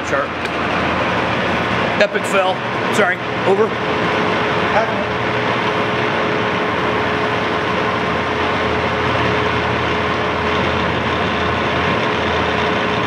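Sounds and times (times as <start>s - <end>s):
lathe motor humming: 0.0s - 13.0s
steady mechanical whine: 0.0s - 13.0s.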